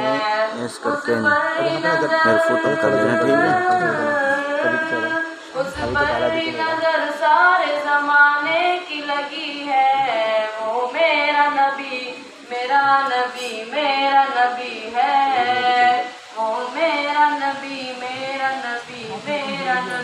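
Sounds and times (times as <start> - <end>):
person singing unaccompanied: 0.0 - 20.0.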